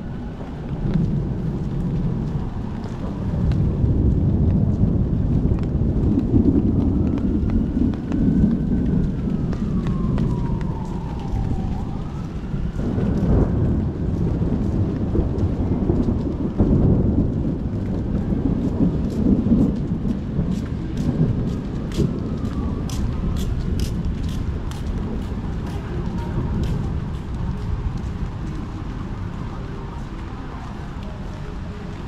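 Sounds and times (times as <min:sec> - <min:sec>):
distant siren wailing: 0:00.0 - 0:03.9, 0:05.1 - 0:32.0
heavy rain: 0:00.0 - 0:32.0
low rumble of thunder: 0:00.0 - 0:32.0.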